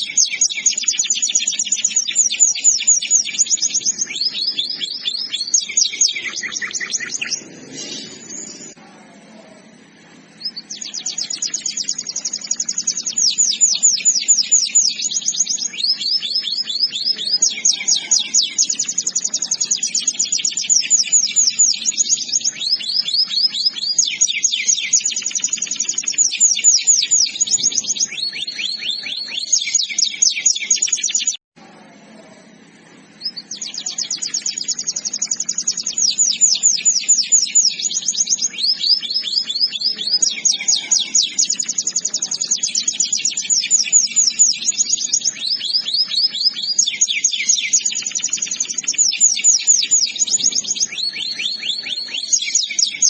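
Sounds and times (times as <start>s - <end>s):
canary singing trills: 0.0s - 31.4s, 32.0s - 53.0s.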